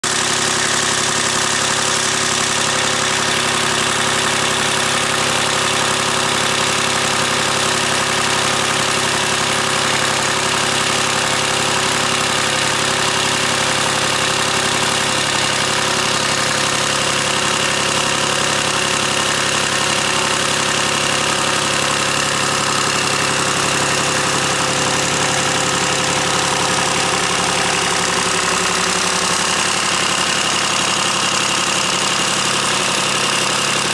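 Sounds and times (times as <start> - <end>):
diesel engine running steadily: 0.0 - 33.9.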